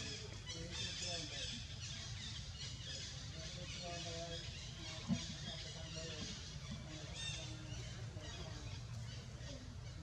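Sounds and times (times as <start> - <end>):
birds chirping: 0.0 - 10.0
faint distant voices: 0.0 - 10.0.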